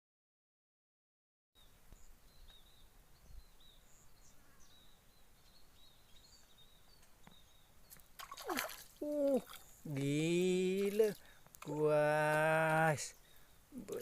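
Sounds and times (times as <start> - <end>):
low outdoor hiss: 1.6 - 14.0.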